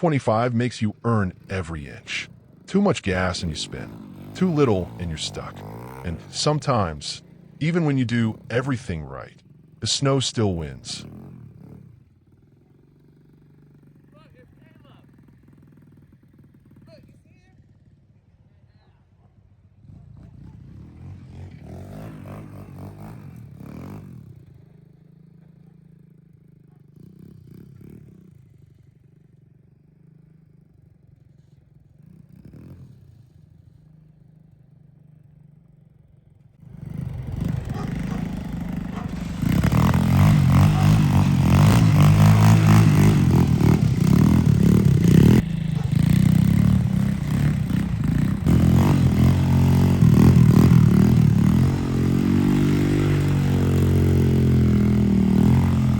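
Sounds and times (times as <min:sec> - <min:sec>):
dirt bike engine under throttle: 0:00.0 - 0:18.1, 0:19.8 - 0:36.0, 0:36.6 - 0:55.9
dirt bike engine idling: 0:00.0 - 0:18.3, 0:20.3 - 0:55.9.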